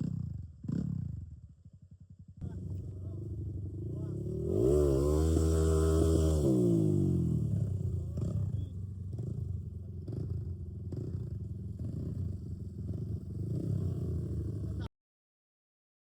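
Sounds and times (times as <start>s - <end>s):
dirt bike engine idling: 0.0s - 14.9s.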